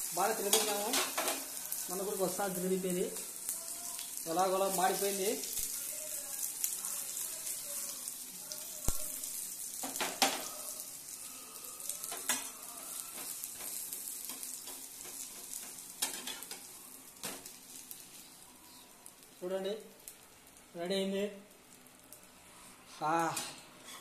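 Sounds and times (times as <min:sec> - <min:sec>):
omelette sizzling in pan: 0:00.0 - 0:24.0.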